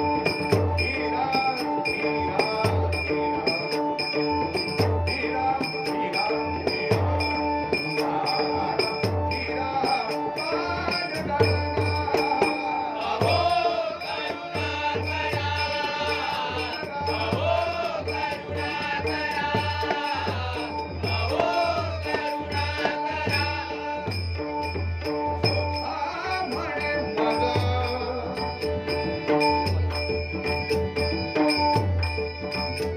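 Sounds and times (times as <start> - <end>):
drum strokes: 0.0 - 32.9.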